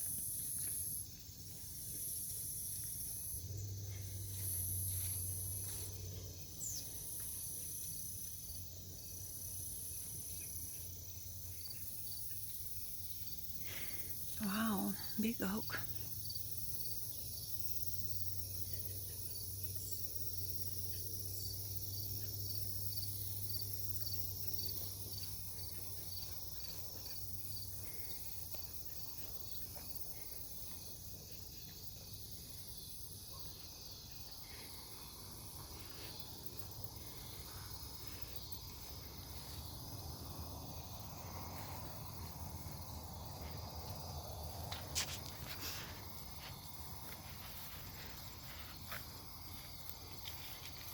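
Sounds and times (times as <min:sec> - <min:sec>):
cicadas and crickets droning: 0:00.0 - 0:50.9
insect chirping: 0:00.0 - 0:50.9.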